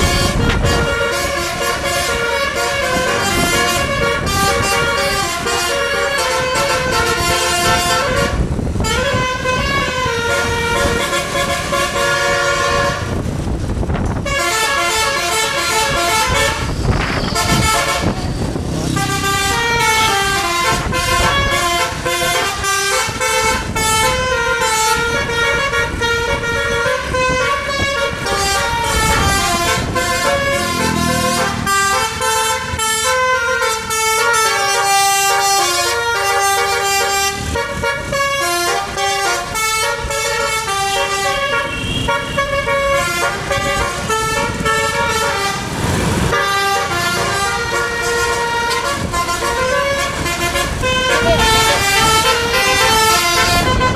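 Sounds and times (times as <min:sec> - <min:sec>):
bus rumbling on road: 0:00.0 - 0:53.9
multi-tone bus horn melody: 0:00.0 - 0:53.9.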